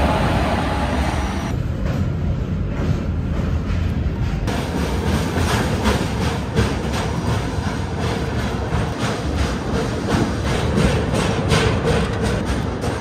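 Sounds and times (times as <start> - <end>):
rhythmic clatter on bridge: 0.0 - 13.0
train wheels rumbling on rails: 0.0 - 13.0.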